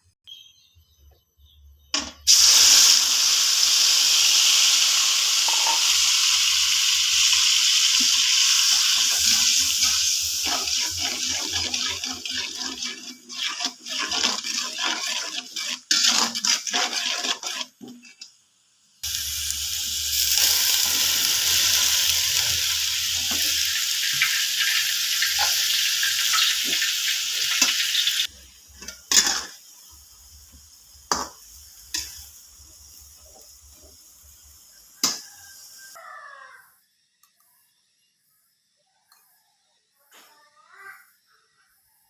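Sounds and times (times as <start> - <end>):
food sizzling in hot oil: 2.3 - 36.0.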